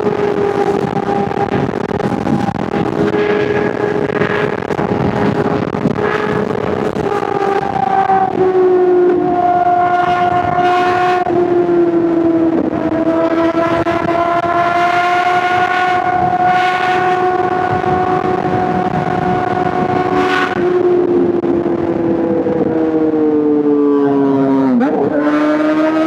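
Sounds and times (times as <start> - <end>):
motorcycle engine at high revs: 0.0 - 22.6, 24.5 - 26.0.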